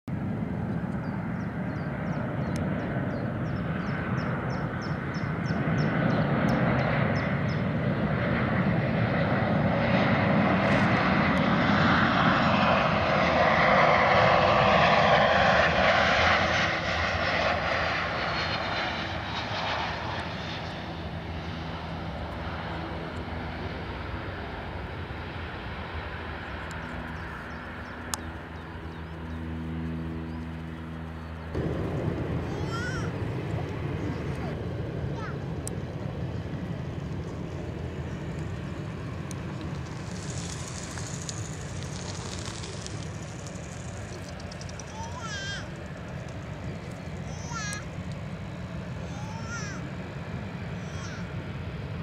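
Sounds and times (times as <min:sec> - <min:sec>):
jet engine rumble and whine: 0:00.1 - 0:52.0.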